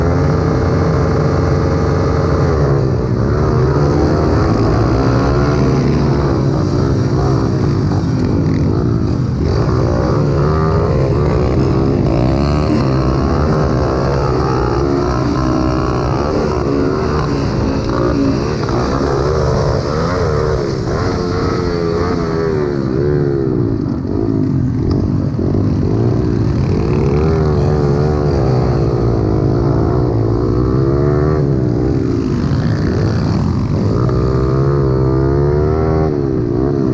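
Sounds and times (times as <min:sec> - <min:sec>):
pit bike engines racing: 0:00.0 - 0:36.9.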